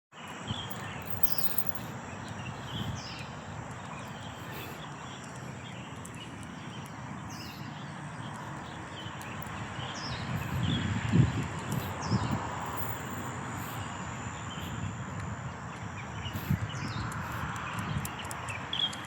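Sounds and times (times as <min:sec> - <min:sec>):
birds chirping: 0:00.2 - 0:19.0
steady rushing background noise: 0:00.2 - 0:19.0.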